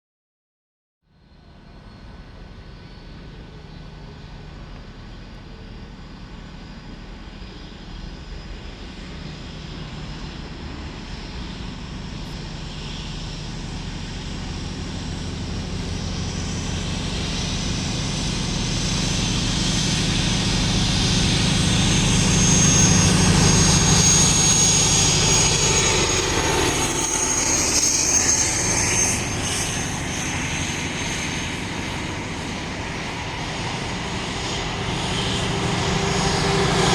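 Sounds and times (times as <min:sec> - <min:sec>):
high whine of train: 0:01.0 - 0:36.9
train passing with engine hum: 0:01.1 - 0:36.9.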